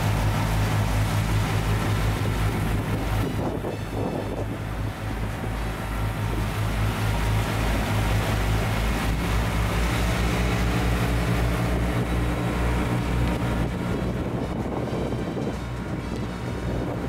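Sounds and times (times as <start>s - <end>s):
boat motor droning: 0.0s - 17.0s
wind buffeting microphone: 0.0s - 17.0s.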